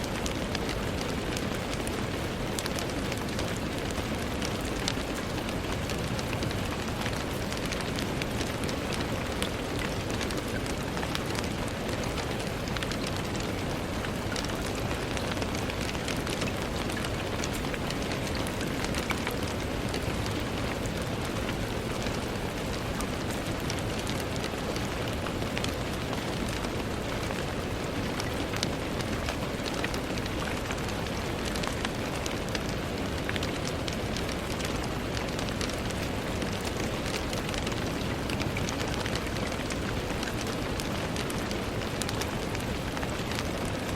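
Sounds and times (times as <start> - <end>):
rain on a window: 0.0 - 43.9.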